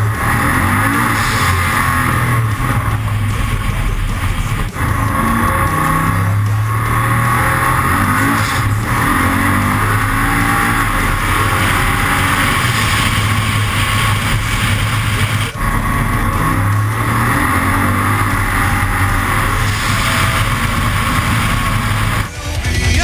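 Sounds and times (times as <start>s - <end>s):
turbocharged car engine running: 0.0s - 23.0s.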